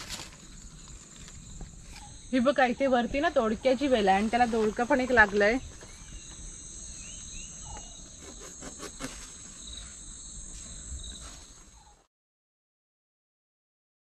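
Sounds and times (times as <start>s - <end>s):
crickets chirping: 0.0s - 12.1s.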